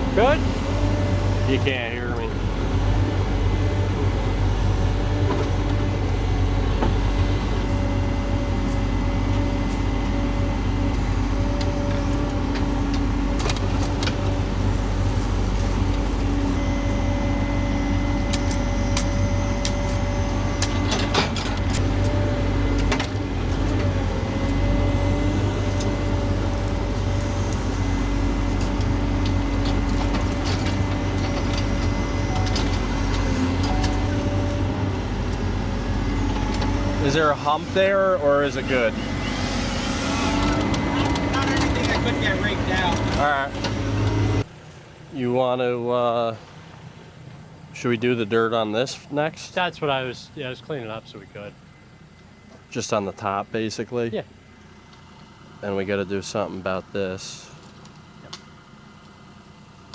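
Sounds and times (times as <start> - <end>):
heavy equipment engine running: 0.0 - 59.9.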